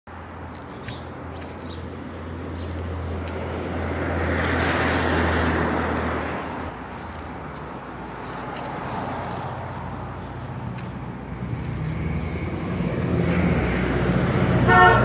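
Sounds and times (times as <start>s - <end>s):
vehicle driving past: 2.4s - 15.0s.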